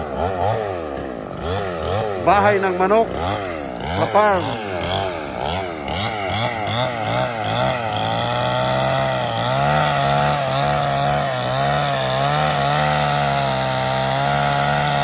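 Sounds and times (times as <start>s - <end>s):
chainsaw sawing wood: 0.0s - 15.0s.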